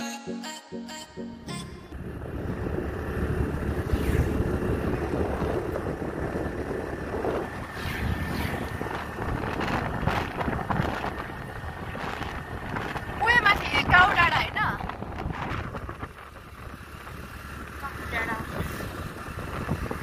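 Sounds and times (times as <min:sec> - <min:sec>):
road noise: 0:01.6 - 0:20.0
motorbike engine: 0:01.9 - 0:20.0
wind buffeting microphone: 0:01.9 - 0:20.0.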